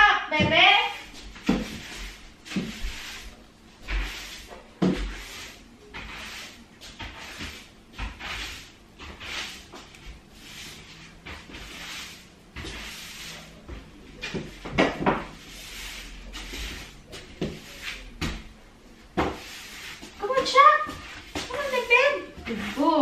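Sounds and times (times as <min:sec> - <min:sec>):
broom sweeping tiled floor: 0:00.0 - 0:23.0.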